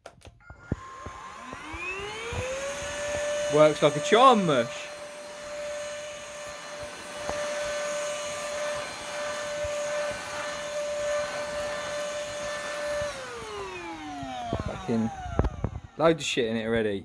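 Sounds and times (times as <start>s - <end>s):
vacuum cleaner motor whine: 0.4s - 16.9s.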